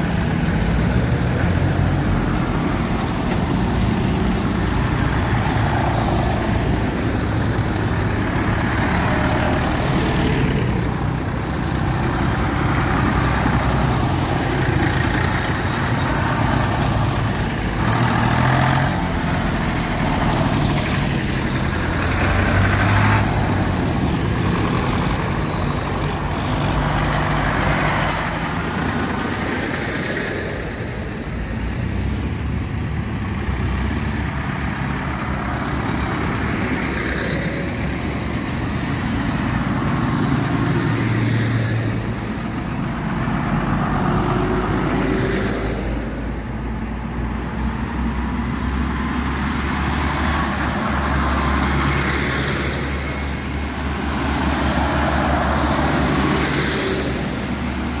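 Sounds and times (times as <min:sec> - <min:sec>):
tractors driving past: 0:00.0 - 0:58.0.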